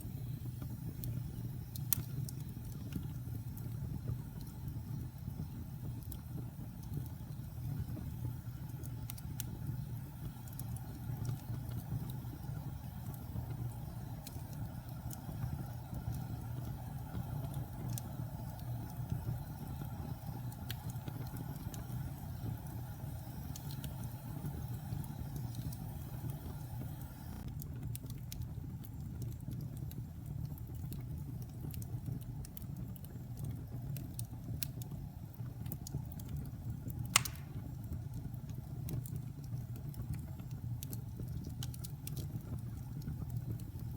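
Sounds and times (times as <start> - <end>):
fire crackling and popping: 0.0 - 43.9
fire rumbling in fireplace: 0.0 - 43.9.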